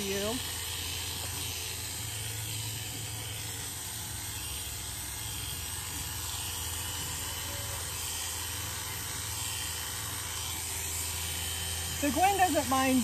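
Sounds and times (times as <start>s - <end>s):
electric clippers buzzing: 0.0s - 13.0s.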